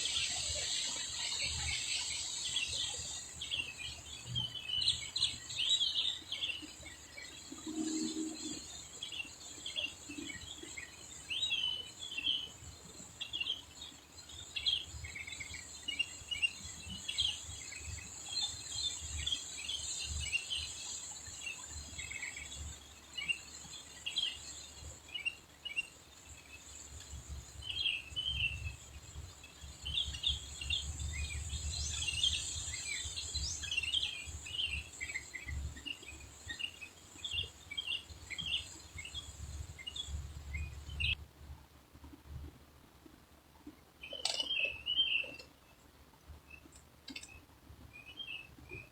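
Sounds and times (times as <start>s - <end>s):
small birds chirping: 0.0s - 41.2s, 43.6s - 48.9s.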